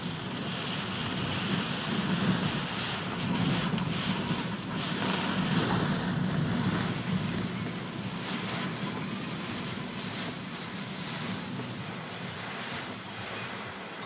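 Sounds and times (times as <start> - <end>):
heavy rain: 0.0 - 14.0
wind buffeting microphone: 0.0 - 14.0.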